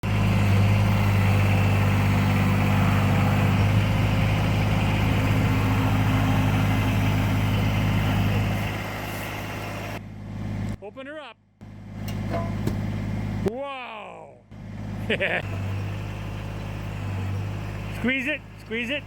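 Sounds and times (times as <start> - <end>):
tractor diesel engine running: 0.0 - 13.5, 14.5 - 19.0.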